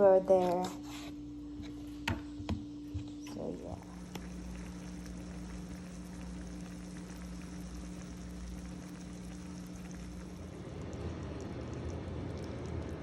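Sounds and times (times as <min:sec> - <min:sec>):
liquid boiling in a pot: 0:00.0 - 0:13.0
low hum: 0:00.0 - 0:13.0.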